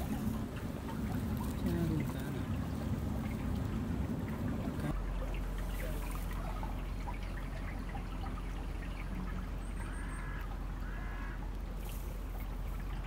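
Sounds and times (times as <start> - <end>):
constant low rumble: 0.0 - 13.0
river water trickling and lapping: 0.0 - 13.0.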